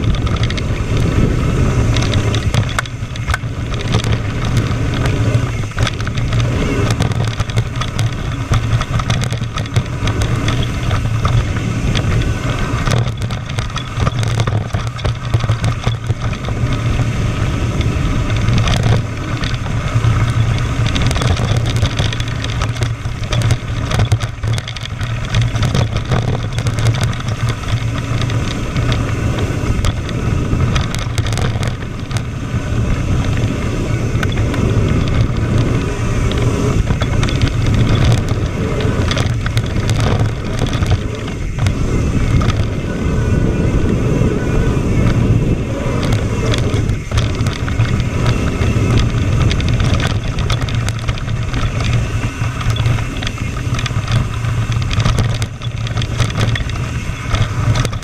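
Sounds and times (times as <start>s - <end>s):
bike rattling over rocks: 0.0s - 58.0s
tyres rumbling on gravel: 0.0s - 58.0s
wind rushing over microphone: 0.0s - 58.0s.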